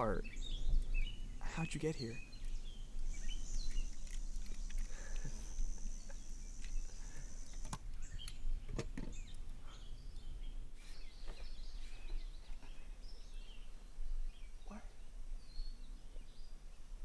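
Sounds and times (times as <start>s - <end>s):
bird chirps: 0.0s - 16.9s.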